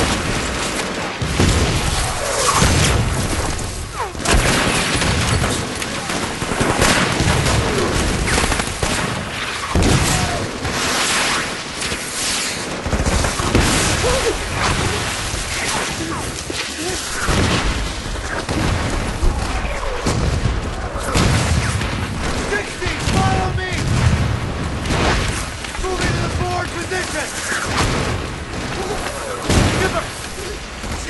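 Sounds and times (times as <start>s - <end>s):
heavy explosions: 0.0s - 31.0s
rifle and machine-gun fire: 0.0s - 31.0s.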